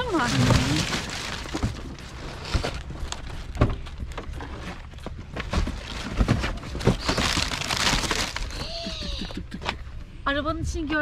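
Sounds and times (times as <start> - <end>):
plastic garbage bags rustling: 0.0 - 9.2.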